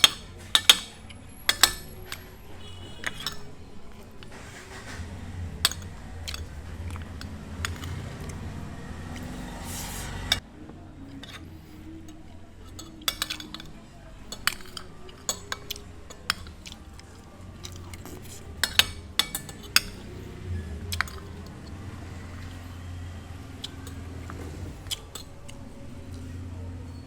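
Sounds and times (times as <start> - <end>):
dishes and cutlery clinking: 0.0 - 27.0
low background hum: 0.0 - 27.0.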